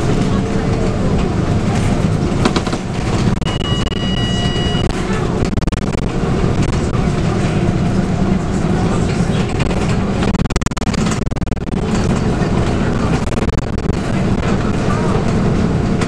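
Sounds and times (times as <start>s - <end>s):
bus body rattling and clicking: 0.0s - 16.0s
bus diesel engine running: 0.0s - 16.0s.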